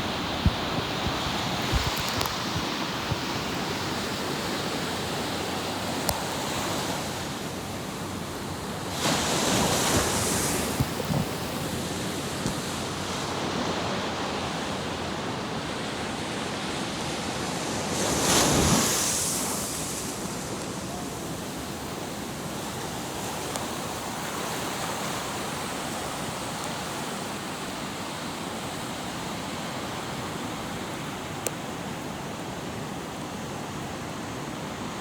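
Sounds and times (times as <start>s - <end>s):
surf washing: 0.0s - 35.0s.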